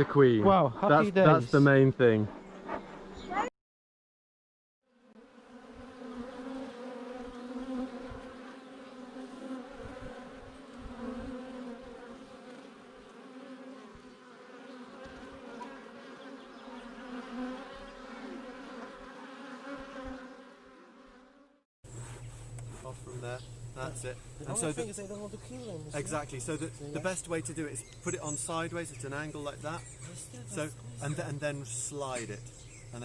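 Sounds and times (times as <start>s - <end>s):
bees buzzing: 5.0s - 33.0s.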